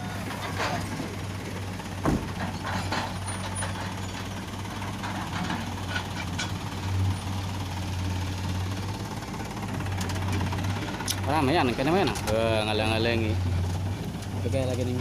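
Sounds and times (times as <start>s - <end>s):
diesel machinery engine running: 0.0s - 15.0s.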